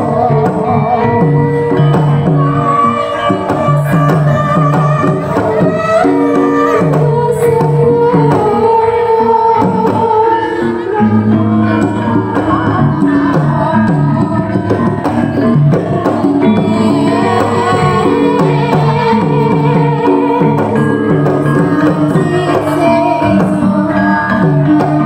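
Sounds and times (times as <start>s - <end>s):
hand drum strokes: 0.0s - 25.0s.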